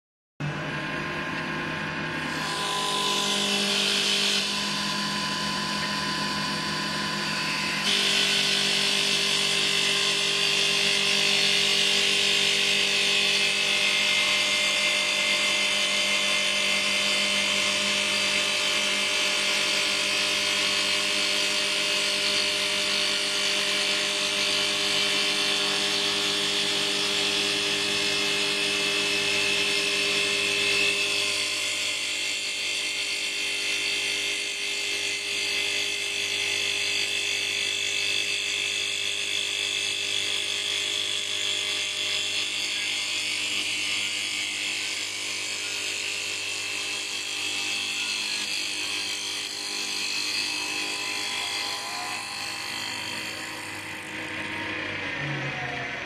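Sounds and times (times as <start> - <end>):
lathe whine: 0.4 - 56.0.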